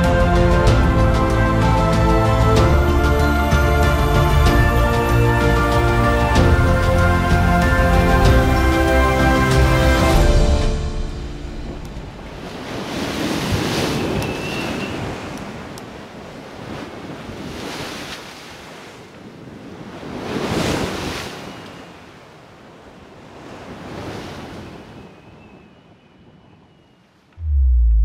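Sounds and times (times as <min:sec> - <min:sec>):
ocean waves surf: 0:00.0 - 0:25.5.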